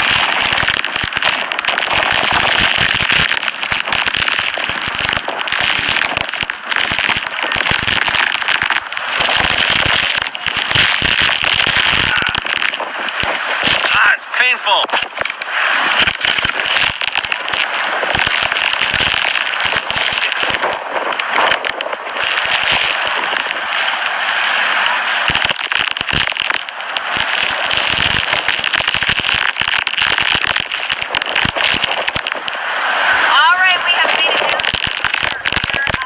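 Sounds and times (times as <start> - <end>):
driving rain: 0.0 - 36.0
hurricane wind: 0.0 - 36.0
wind buffeting microphone pops: 0.0 - 36.0.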